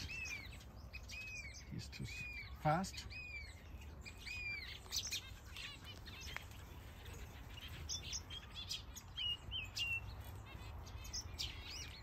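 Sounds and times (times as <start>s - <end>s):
birds chirping and trilling: 0.0s - 12.0s.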